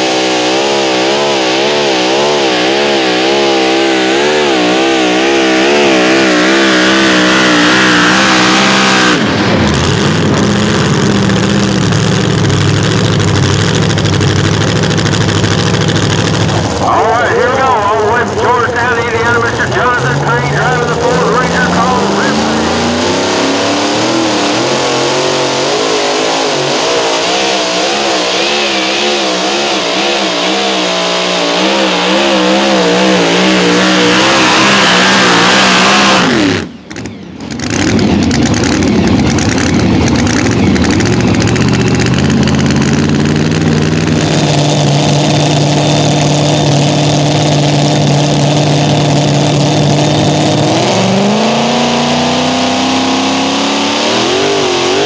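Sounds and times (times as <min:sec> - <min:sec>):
truck engine at full throttle: 0:00.0 - 0:55.0.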